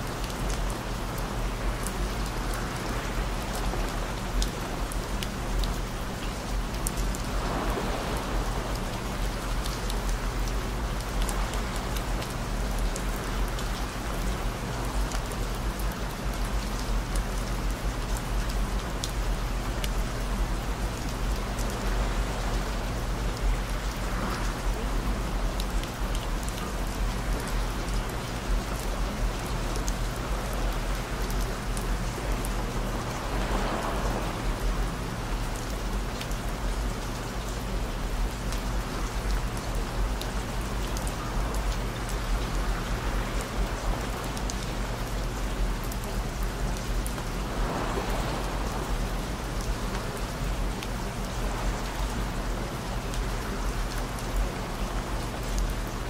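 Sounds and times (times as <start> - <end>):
rain falling: 0.0 - 56.0
rain drop ticks: 0.2 - 7.2, 8.7 - 20.3, 25.5 - 33.8, 34.4 - 56.0.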